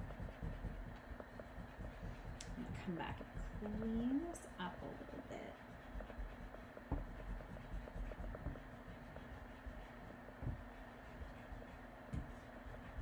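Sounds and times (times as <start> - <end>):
marker scratching on paper: 0.0 - 13.0.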